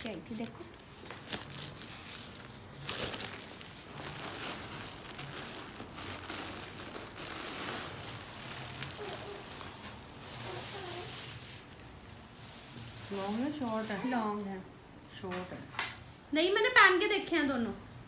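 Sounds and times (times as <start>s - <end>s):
plastic bags crinkling: 0.0s - 14.7s.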